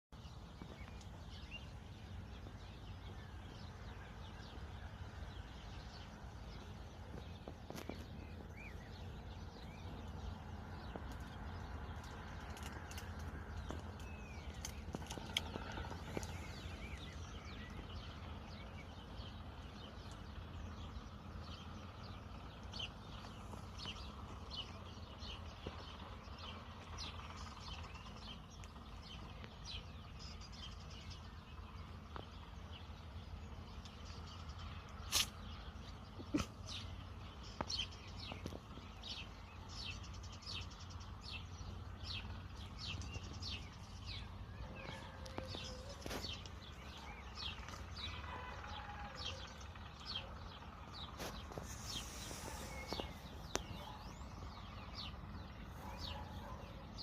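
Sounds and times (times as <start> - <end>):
small birds chirping: 0.1 - 57.0
steady low hum: 0.2 - 57.0.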